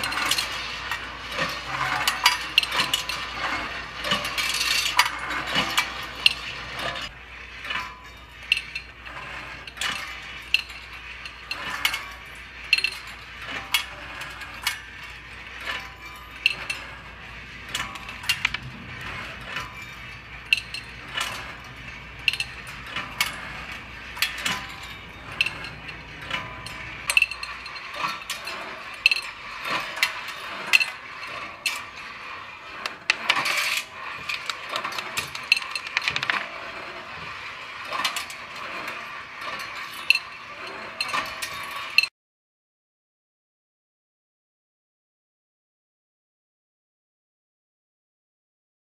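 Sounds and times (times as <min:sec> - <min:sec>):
chain and ratchet clicking: 0:00.0 - 0:42.1
steel balls clinking on wire: 0:00.0 - 0:42.1.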